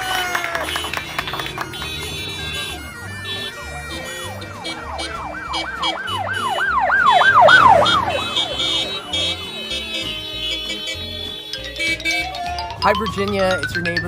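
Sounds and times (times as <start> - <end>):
siren yelping: 0.0 - 14.0.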